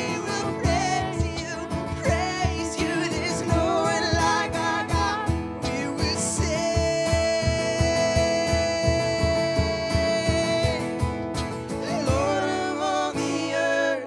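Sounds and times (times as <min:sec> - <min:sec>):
guitar: 0:00.0 - 0:14.0.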